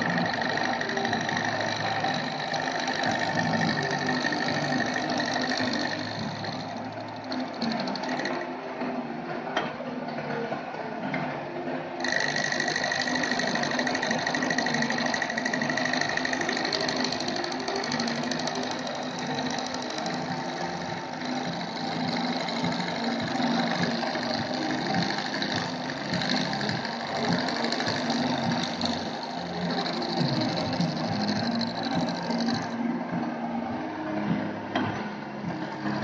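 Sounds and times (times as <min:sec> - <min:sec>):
high steady whine: 0:00.0 - 0:36.0
milling machine cutting metal: 0:00.0 - 0:36.0.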